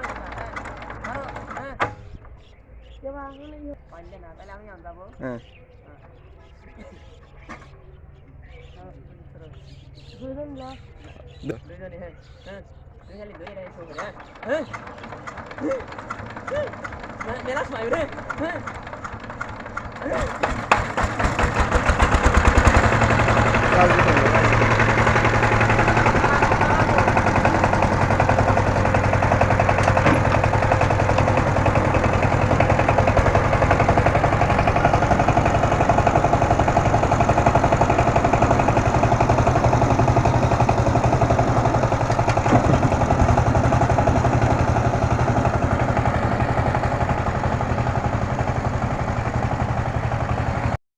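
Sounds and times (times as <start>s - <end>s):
diesel tiller engine chugging: 0.0s - 50.8s.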